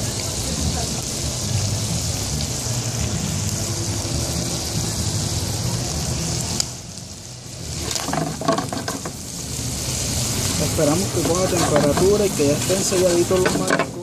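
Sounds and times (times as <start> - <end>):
seafood sizzling in hot oil: 0.0 - 14.0.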